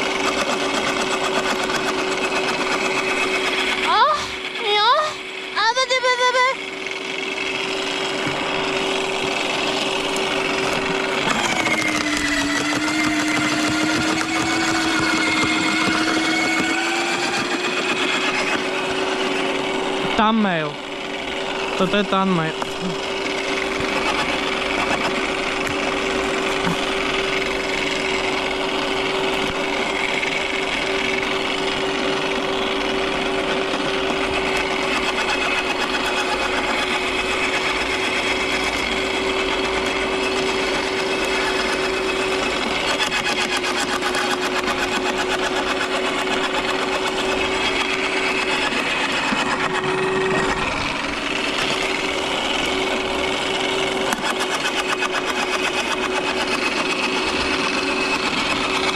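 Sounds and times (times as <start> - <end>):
garden shredder motor whine: 0.0 - 58.9.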